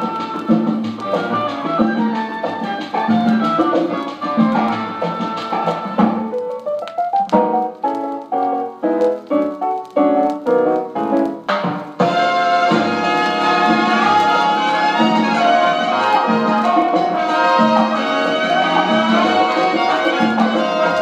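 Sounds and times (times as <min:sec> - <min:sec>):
band music from vinyl record: 0:00.0 - 0:21.0.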